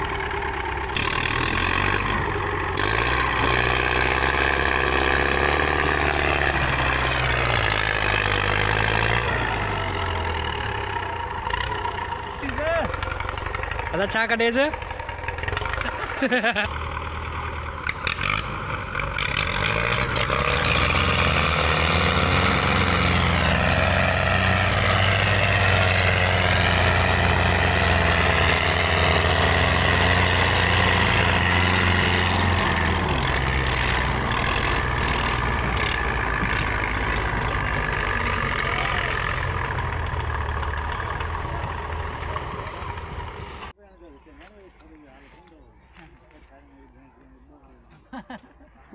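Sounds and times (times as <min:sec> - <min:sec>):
tractor engines straining: 0:00.0 - 0:48.9.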